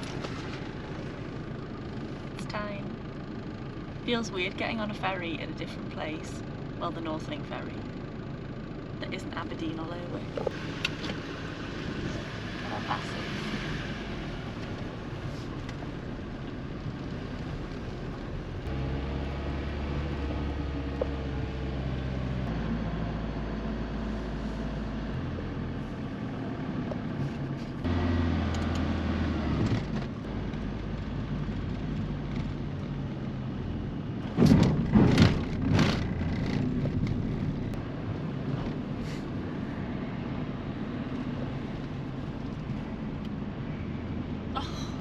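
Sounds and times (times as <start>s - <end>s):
vehicle engines running: 0.0s - 45.0s.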